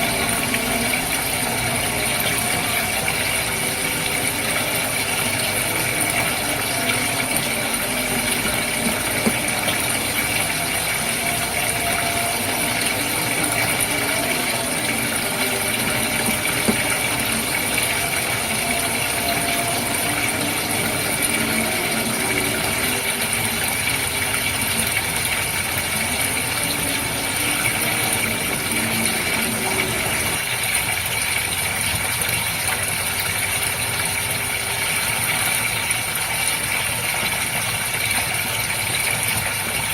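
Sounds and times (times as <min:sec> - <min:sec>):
aquarium pump humming: 0:00.0 - 0:39.9
water bubbling and trickling: 0:00.0 - 0:39.9.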